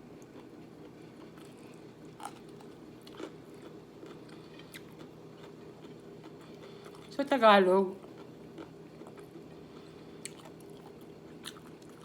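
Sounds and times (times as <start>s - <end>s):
low steady hum: 0.0s - 12.0s
faint chewing: 0.2s - 7.1s, 8.0s - 12.0s.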